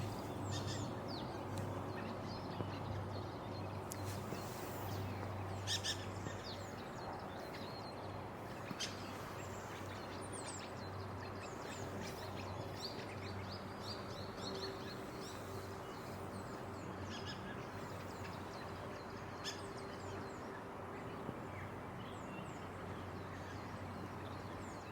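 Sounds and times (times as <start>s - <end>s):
flock of birds chirping: 0.0s - 24.9s.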